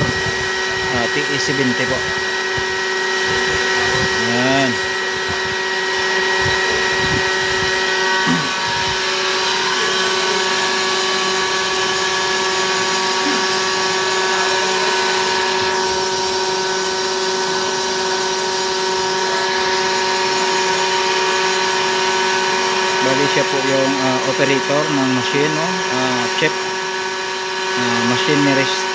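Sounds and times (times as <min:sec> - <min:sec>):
grinding wheel hissing on steel: 0:00.0 - 0:28.9
machine whining tones: 0:00.0 - 0:28.9.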